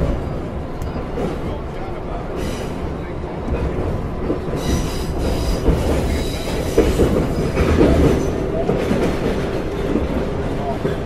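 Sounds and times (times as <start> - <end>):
subway wheels rumbling on rails: 0.0 - 11.0.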